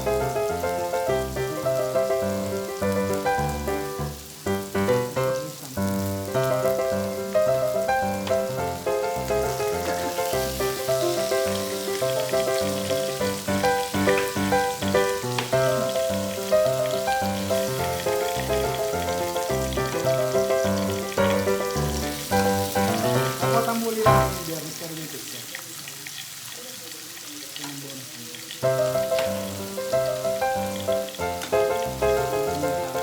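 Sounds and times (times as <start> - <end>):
pork sizzling on a grill: 0.0 - 33.0.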